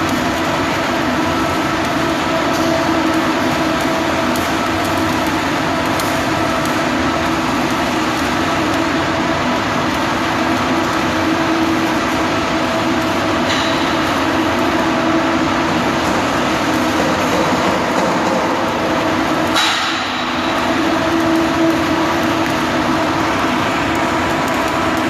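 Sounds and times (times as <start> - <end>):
arc welding crackling hiss: 0.0 - 25.0.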